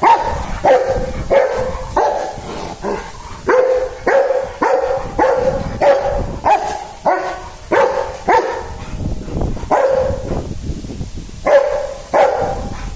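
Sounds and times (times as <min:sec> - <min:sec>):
dog barking: 0:00.0 - 0:09.0, 0:09.7 - 0:10.3, 0:11.4 - 0:12.9.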